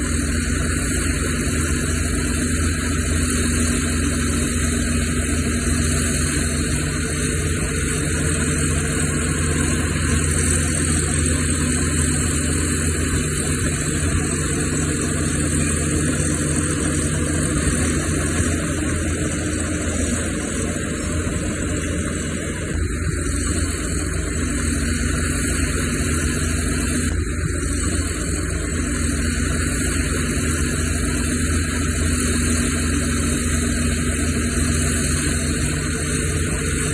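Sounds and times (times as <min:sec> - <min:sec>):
heavy machinery diesel engines: 0:00.0 - 0:36.9.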